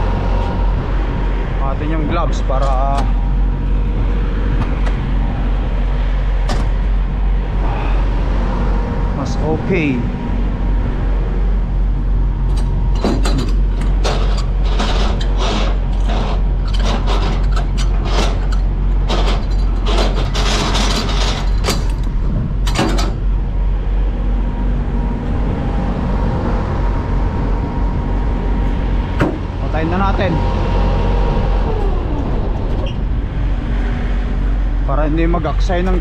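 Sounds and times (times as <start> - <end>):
diesel engine idling: 0.0 - 36.0.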